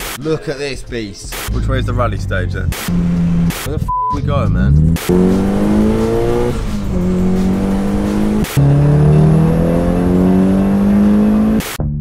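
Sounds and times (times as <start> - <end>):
car engine revving under throttle: 1.6 - 11.8.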